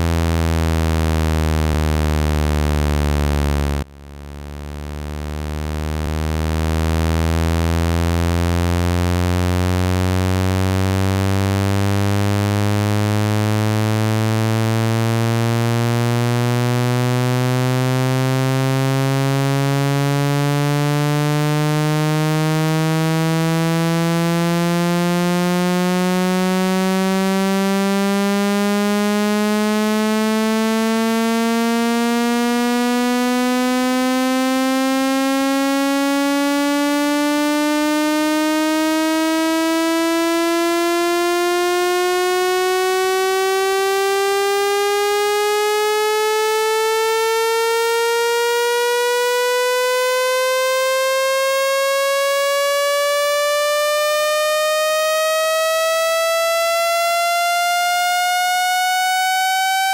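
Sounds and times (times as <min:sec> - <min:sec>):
buzzy rising test tone: 0:00.0 - 0:59.9.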